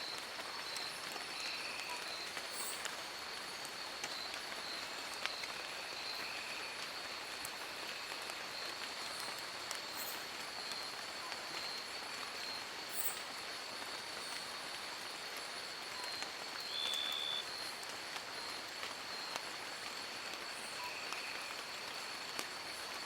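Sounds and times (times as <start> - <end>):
rain falling in forest: 0.0 - 23.0.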